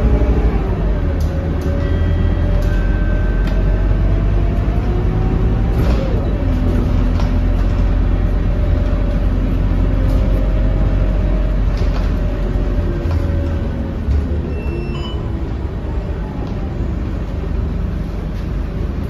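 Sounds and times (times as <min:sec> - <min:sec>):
bus engine rumble with whine: 0:00.0 - 0:19.0.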